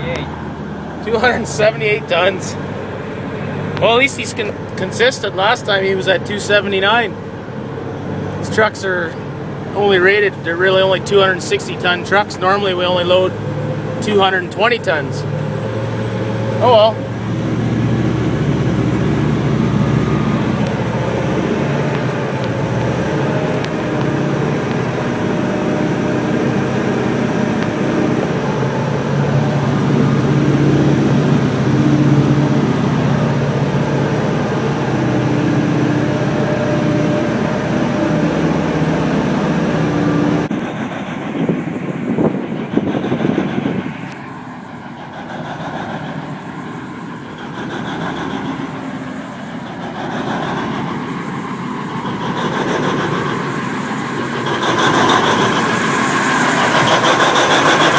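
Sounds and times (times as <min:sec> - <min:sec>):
diesel engine drone with whine: 0:00.0 - 0:57.9
haul truck rumbling past: 0:00.0 - 0:57.9.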